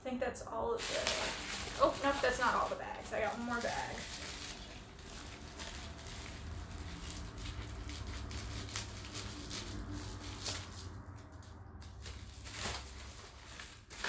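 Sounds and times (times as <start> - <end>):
plastic bag rustling: 0.7 - 14.0.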